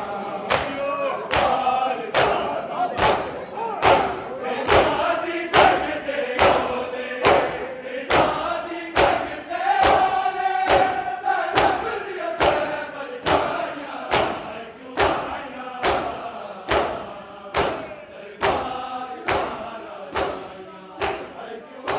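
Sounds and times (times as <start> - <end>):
mourners chanting together: 0.0 - 21.9.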